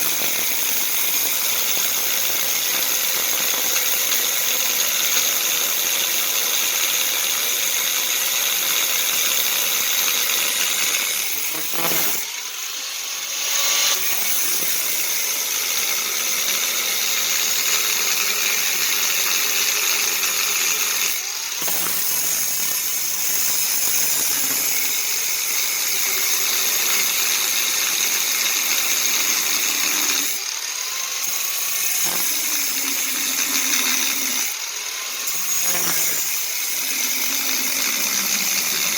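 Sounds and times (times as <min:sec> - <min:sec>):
power tool whining on metal: 0:00.0 - 0:38.9.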